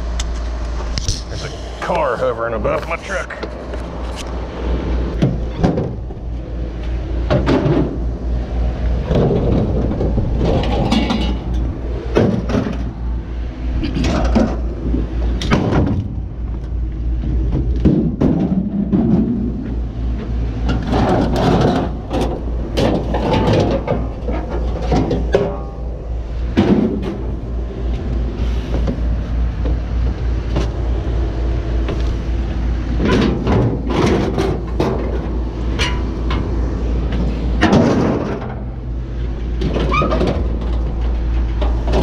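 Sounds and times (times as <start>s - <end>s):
heavy machine engine running: 0.0s - 42.0s
scrap metal clanks and bangs: 1.0s - 30.8s, 31.8s - 42.0s.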